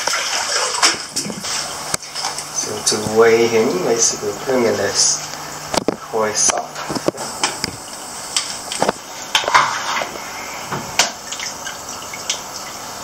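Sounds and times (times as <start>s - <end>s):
water splashing and dripping: 0.0s - 4.1s, 5.8s - 13.0s.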